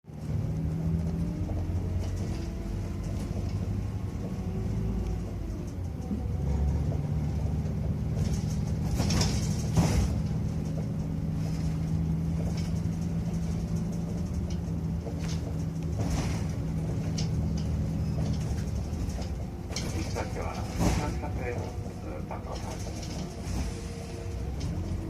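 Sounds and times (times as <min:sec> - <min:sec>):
bus engine running: 0:00.0 - 0:25.0
road rumble: 0:00.0 - 0:25.0.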